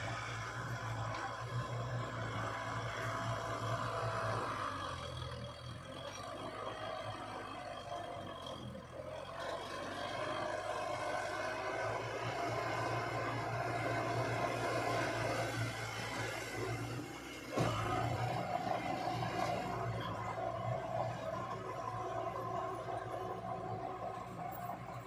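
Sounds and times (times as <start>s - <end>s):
diesel machinery droning: 0.0s - 25.0s.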